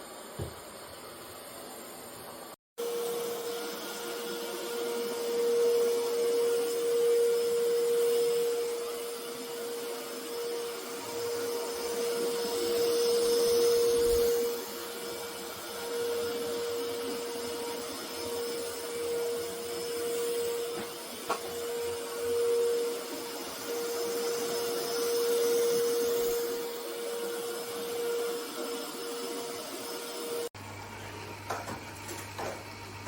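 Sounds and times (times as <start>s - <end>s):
robot vacuum motor hum: 2.9s - 30.5s.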